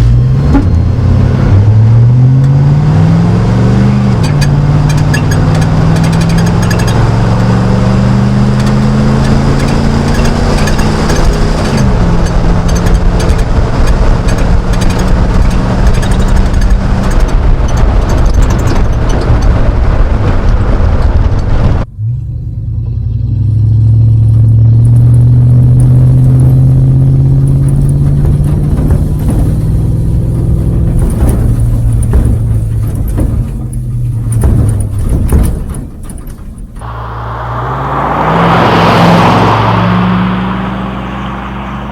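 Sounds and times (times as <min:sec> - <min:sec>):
car engine exhaust accelerating: 0:00.0 - 0:41.9.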